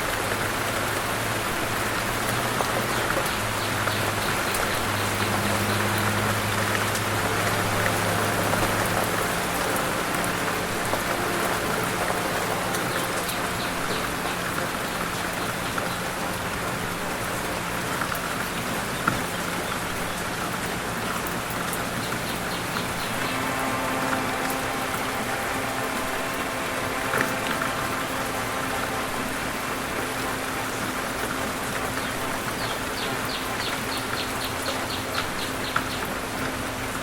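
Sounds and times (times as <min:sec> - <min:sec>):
light rain-like patter: 0:00.0 - 0:37.0
steady hiss: 0:00.0 - 0:37.0.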